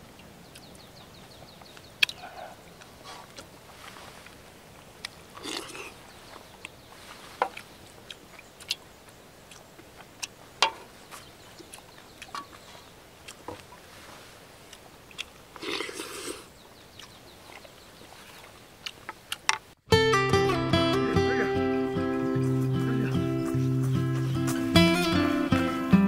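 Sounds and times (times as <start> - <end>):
chewing: 0.1 - 19.8, 21.3 - 25.8.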